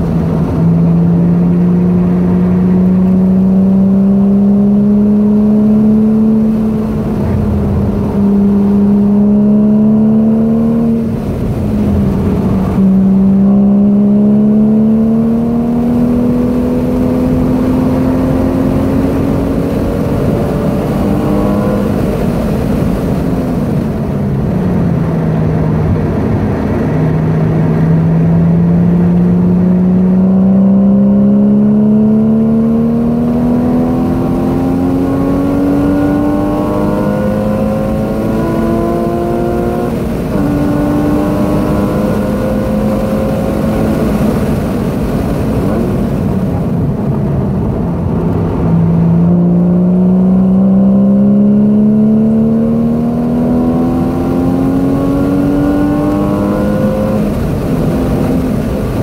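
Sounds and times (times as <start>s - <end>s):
car engine heard from cabin: 0.0s - 59.0s
road and wind noise: 0.0s - 59.0s.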